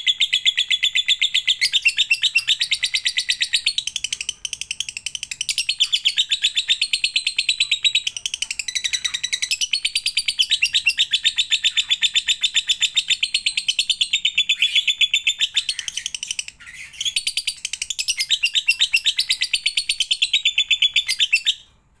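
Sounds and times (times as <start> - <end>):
lovebird chattering trill: 0.0 - 21.6.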